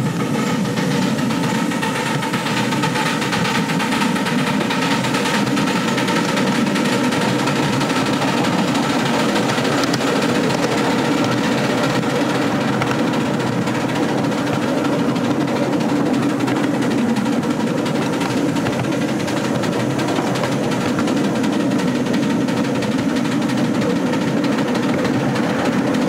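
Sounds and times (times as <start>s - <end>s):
miniature steam train running: 0.0s - 26.0s.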